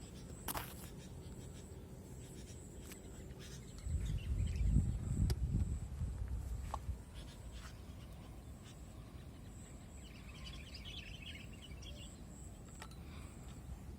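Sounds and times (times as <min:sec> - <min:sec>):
small birds twittering: 0:00.0 - 0:05.9, 0:06.5 - 0:13.9.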